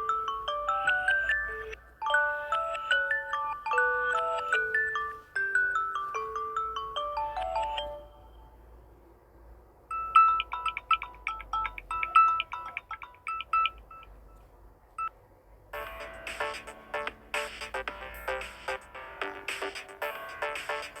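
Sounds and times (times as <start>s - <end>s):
descending ringtone melody: 0.0s - 8.6s, 9.9s - 14.3s, 15.8s - 21.0s.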